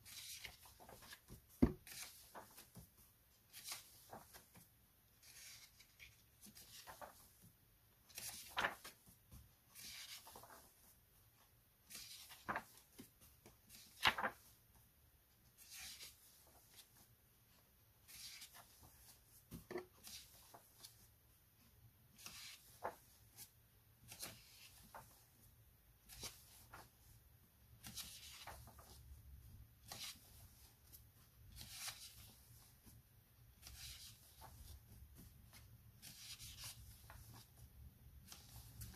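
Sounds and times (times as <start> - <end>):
paper pages turning: 0.0 - 11.0, 11.8 - 14.6, 15.5 - 17.1, 18.0 - 21.1, 22.1 - 38.9.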